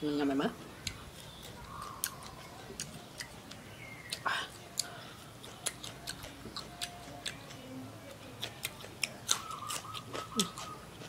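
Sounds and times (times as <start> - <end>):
crunchy chewing: 0.6 - 11.0
chilli being bitten: 0.8 - 7.7, 8.4 - 11.0.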